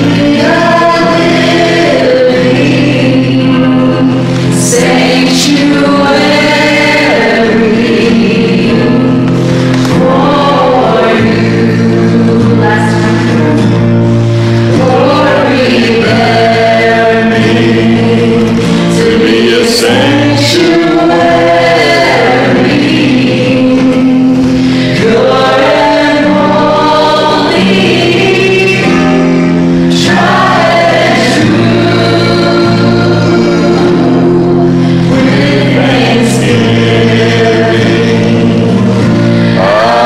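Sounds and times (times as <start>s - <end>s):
choir-like backing voices: 0.0s - 40.0s
sustained accompaniment chords: 0.0s - 40.0s
woman singing into a microphone: 0.0s - 40.0s.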